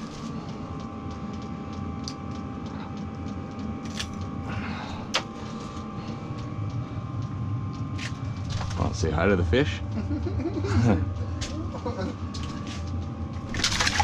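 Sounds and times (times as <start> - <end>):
diesel heater hum: 0.0 - 14.0
faint steady whine: 0.0 - 14.0.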